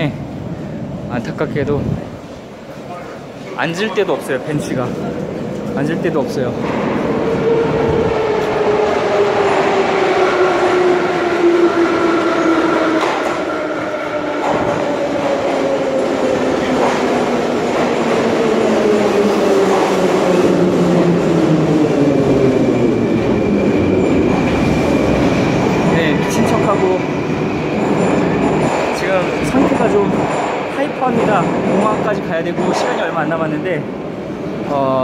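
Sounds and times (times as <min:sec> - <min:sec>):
metro train pulling in: 0:00.0 - 0:35.0.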